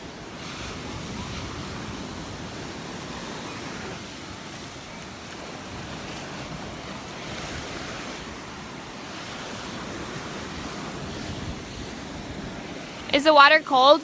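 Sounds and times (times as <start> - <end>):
wind on microphone: 0.0 - 13.7
waves breaking on beach: 0.0 - 14.0.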